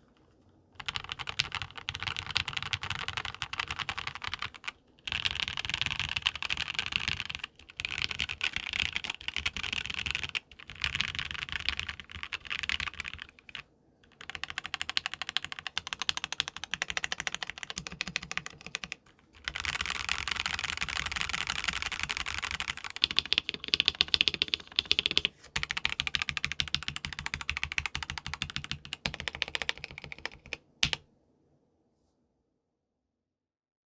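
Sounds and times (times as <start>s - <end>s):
mechanical keyboard typing: 0.8s - 31.0s.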